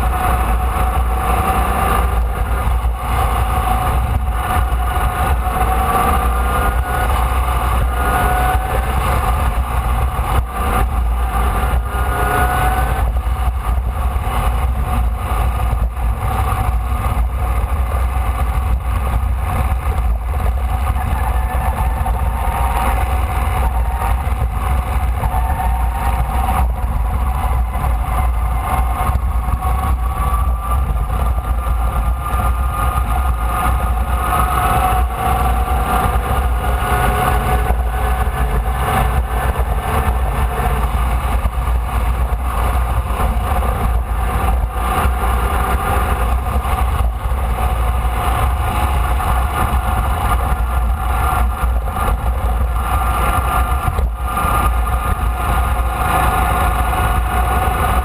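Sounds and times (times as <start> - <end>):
race car engine: 0.0 - 58.0
wind buffeting microphone: 0.0 - 58.0.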